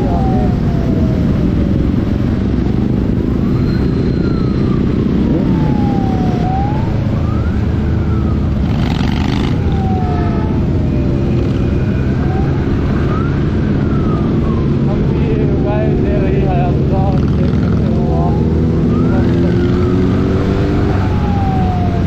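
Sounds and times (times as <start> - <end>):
motor and road noise rumble: 0.0 - 22.0
siren wailing: 0.0 - 22.0.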